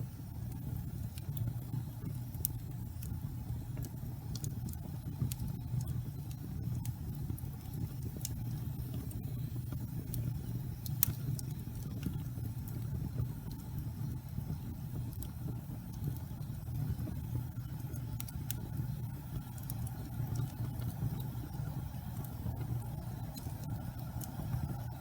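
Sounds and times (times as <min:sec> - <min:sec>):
fire crackles and pops: 0:00.0 - 0:25.0
low rumble of flame: 0:00.0 - 0:25.0.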